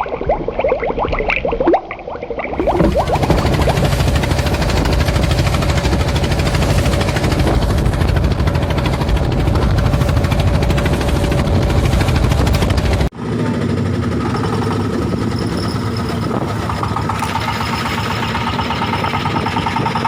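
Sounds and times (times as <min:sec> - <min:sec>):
boat engine running: 0:02.5 - 0:20.0.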